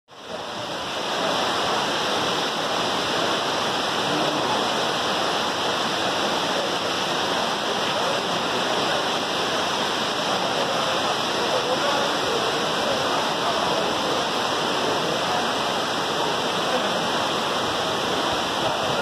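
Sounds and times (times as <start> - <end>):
waterfall rushing onto rocks: 0.1 - 19.0.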